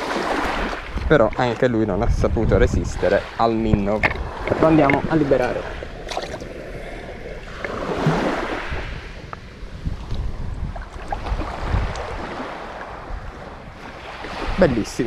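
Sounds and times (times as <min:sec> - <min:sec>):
sea water washing over shallows: 0:00.0 - 0:15.0
wind rumbling on microphone: 0:00.0 - 0:15.0.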